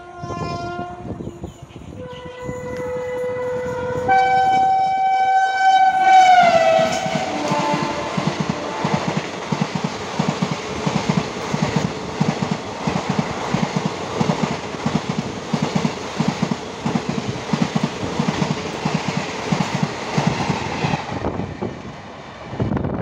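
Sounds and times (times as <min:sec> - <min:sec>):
train rushing noise: 0:00.0 - 0:23.0.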